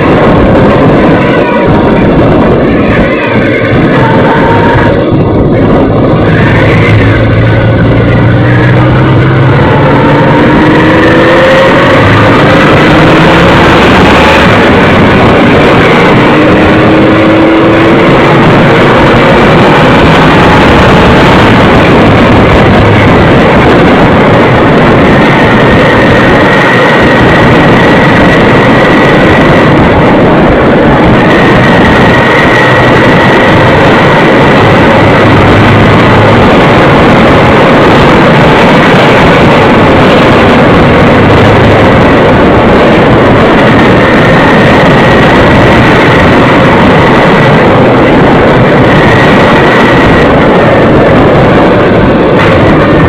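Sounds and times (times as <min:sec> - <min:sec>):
faint motorcycle engine whine: 0:00.0 - 0:53.0
wind rush over microphone: 0:00.0 - 0:53.0.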